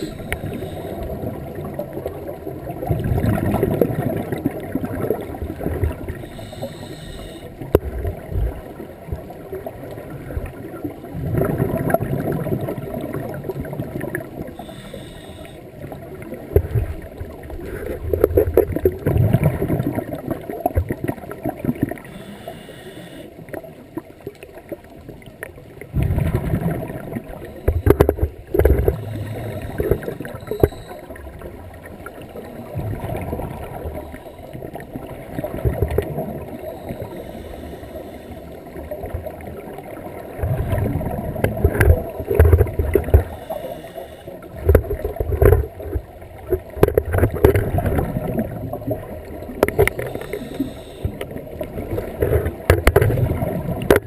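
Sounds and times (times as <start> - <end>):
underwater bubbles gurgling: 0.0 - 54.0.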